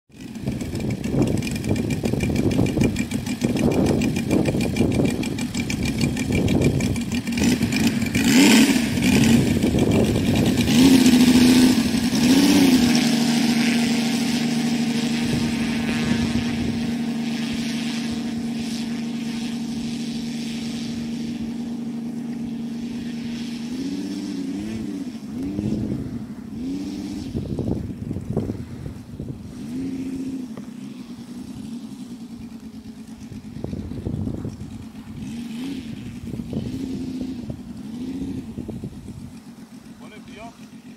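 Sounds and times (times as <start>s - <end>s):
model plane engine revving: 0.1s - 40.9s.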